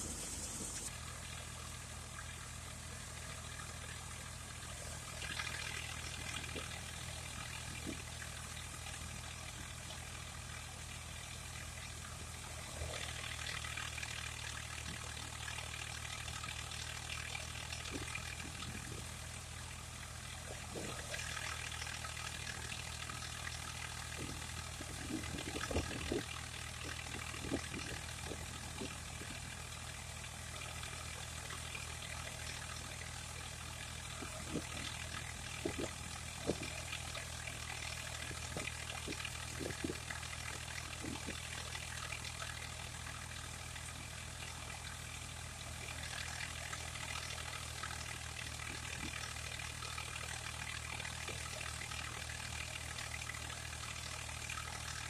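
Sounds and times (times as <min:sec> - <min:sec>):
machinery engine running: 0:00.0 - 0:53.4.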